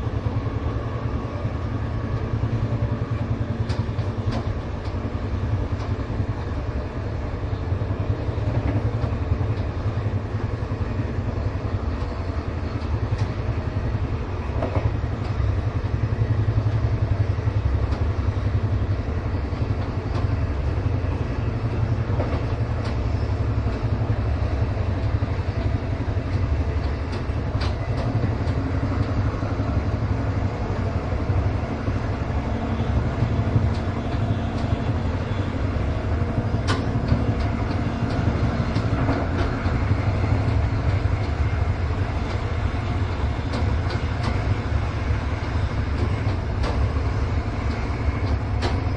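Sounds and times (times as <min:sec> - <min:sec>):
train rumble inside car: 0:00.0 - 0:48.9.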